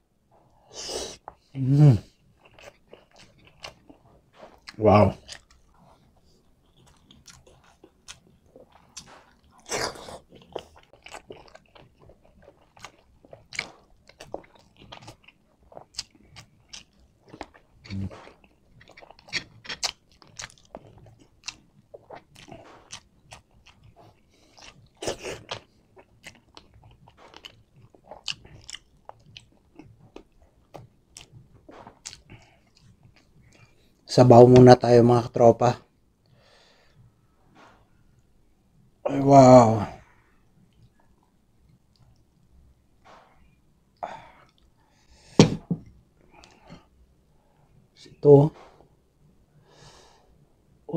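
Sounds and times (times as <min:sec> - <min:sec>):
man chewing food: 0:00.2 - 0:34.7, 0:40.0 - 0:48.0.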